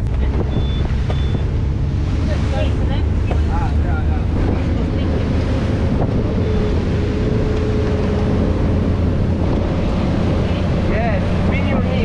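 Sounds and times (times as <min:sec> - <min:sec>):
boat engine running: 0:00.0 - 0:12.0
water rushing of wake: 0:00.0 - 0:12.0
wind buffeting microphone: 0:00.0 - 0:12.0.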